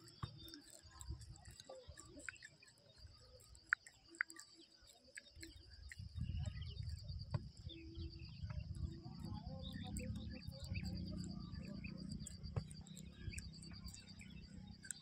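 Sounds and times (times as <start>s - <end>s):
bird chirps: 0.0s - 15.0s
insects chirring: 0.0s - 15.0s.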